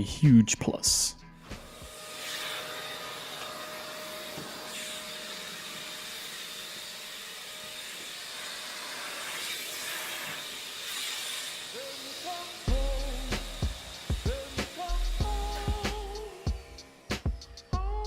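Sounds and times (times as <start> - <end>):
vacuum cleaner running: 1.4 - 17.8.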